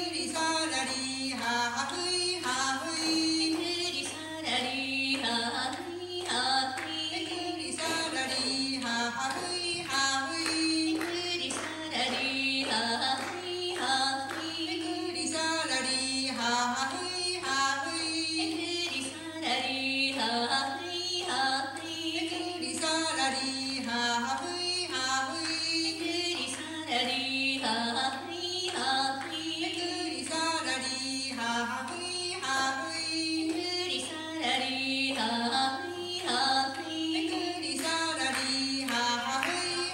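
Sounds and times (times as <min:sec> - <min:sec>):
women singing unaccompanied: 0:00.0 - 0:39.9.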